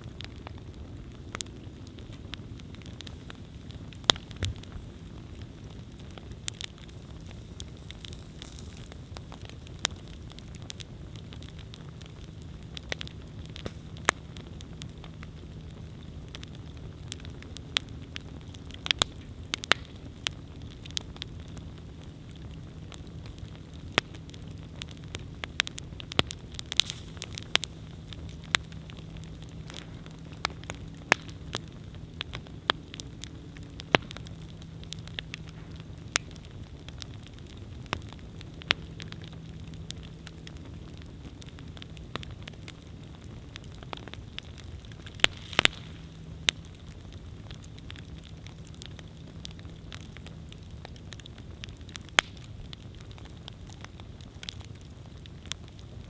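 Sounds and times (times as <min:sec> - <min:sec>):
campfire crackling and popping: 0:00.0 - 0:56.0
low rumble of flame: 0:00.0 - 0:56.0.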